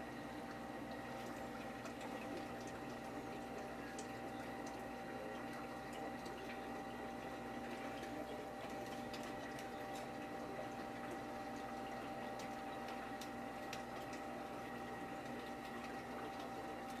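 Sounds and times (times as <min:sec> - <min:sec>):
aquarium pumps humming: 0:00.0 - 0:17.0
water trickling and bubbling: 0:00.0 - 0:17.0.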